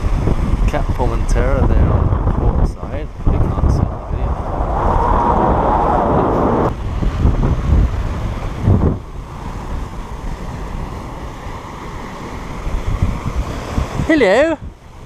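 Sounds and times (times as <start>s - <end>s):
wind buffeting microphone: 0.0s - 11.1s, 12.6s - 15.0s
water rushing along hull: 0.0s - 15.0s.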